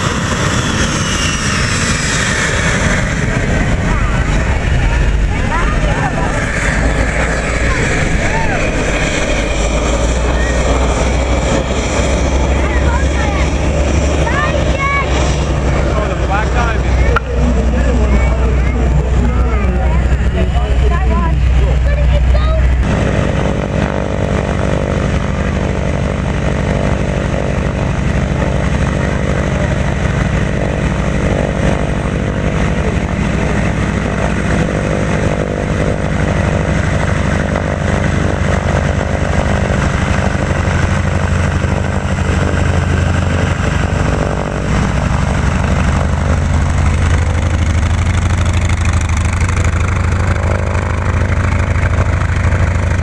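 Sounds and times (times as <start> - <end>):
radial engine and propeller running: 0.0 - 53.0.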